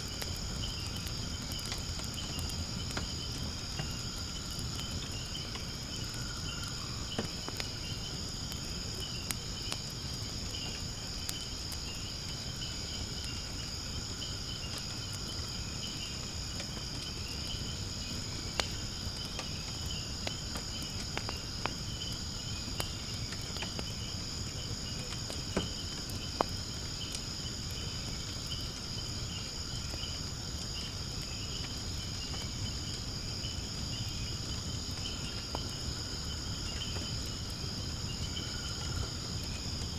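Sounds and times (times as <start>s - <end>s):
fire crackling and popping: 0.0s - 39.9s
insects chirring: 0.0s - 39.9s
low rumble of flame: 0.0s - 39.9s.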